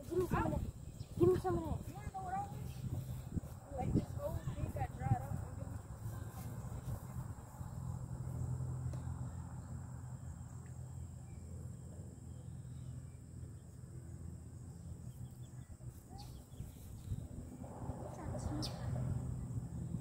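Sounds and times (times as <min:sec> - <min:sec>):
insects chirring: 0:00.0 - 0:20.0
low steady hum: 0:00.0 - 0:20.0.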